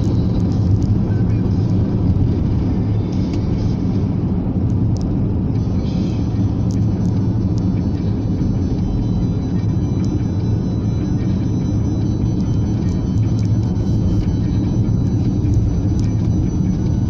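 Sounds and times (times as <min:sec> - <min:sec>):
car interior rumble: 0:00.0 - 0:17.0.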